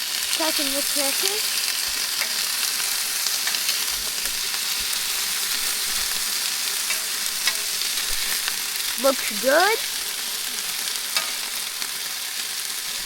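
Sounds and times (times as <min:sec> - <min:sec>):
chicken sizzling in a hot pan: 0:00.0 - 0:13.0.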